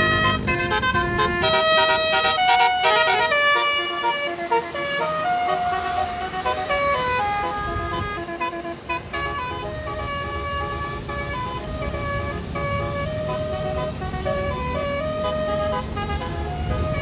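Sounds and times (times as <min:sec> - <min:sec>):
bus engine running: 0:00.0 - 0:17.0
multi-note bus horn melody: 0:00.0 - 0:17.0.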